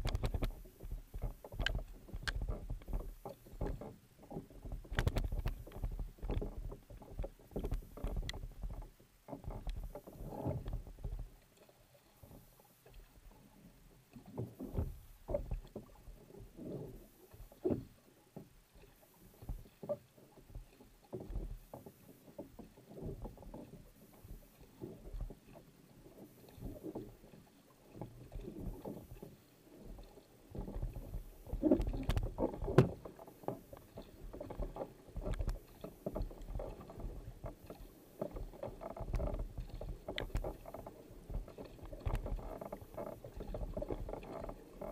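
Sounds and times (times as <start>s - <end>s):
paddle blade splashing water: 0.0s - 44.9s
water washing along hull: 0.0s - 44.9s.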